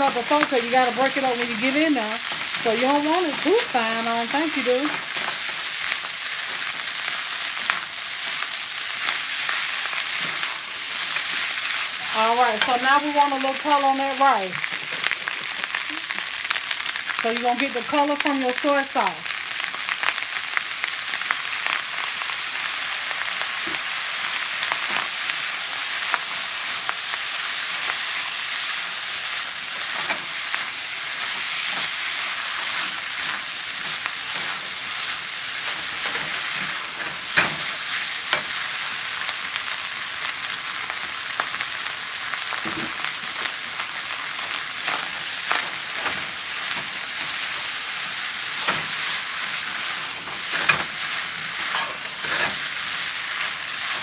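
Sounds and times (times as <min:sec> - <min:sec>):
fried rice sizzling in a skillet: 0:00.0 - 0:54.0.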